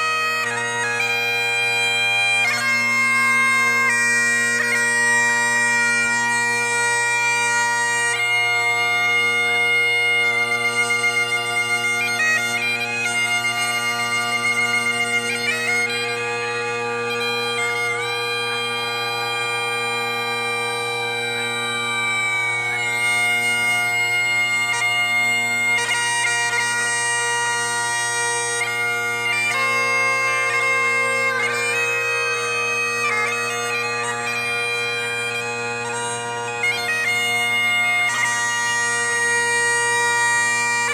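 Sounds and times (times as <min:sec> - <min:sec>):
bagpipes playing slow tune: 0:00.0 - 0:40.9.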